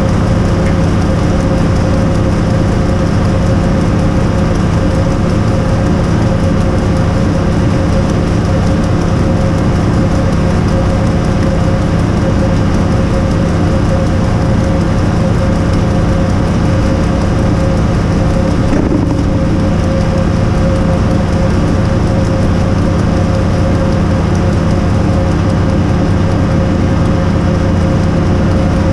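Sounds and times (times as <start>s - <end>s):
engine running steadily: 0.0s - 28.9s.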